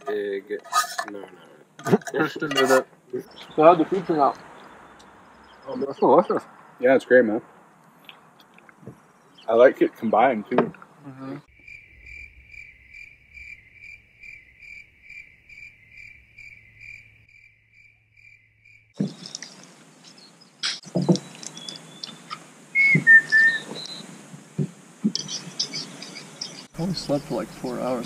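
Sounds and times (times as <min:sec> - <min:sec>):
cricket chirping: 0:00.0 - 0:28.0.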